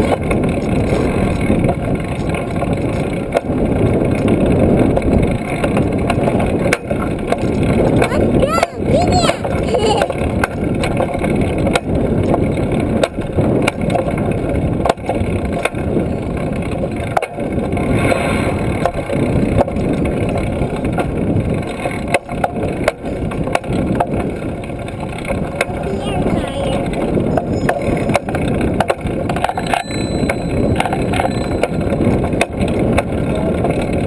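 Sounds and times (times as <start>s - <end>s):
bike rattling over path: 0.0s - 34.0s
wind noise on microphone: 0.0s - 34.0s.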